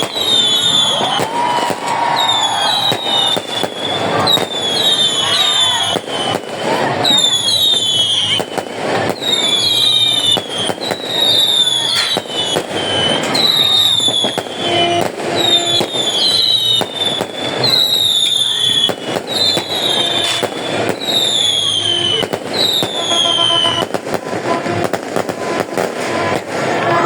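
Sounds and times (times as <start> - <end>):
fireworks bangs: 0.0 - 27.0
fireworks crackling: 0.0 - 27.0
fireworks whistles falling in pitch: 0.0 - 27.0.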